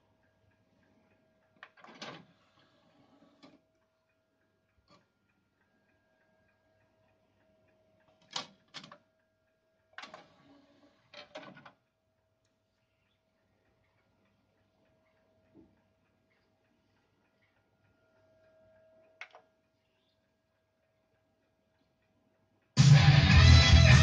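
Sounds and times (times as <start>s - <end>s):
faint regular ticking: 0.0s - 2.7s, 3.4s - 10.4s, 11.8s - 23.9s.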